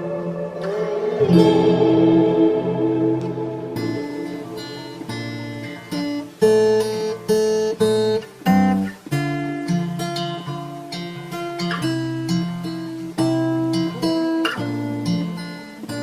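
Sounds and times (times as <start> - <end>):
guitar chords strummed: 0.0 - 15.6.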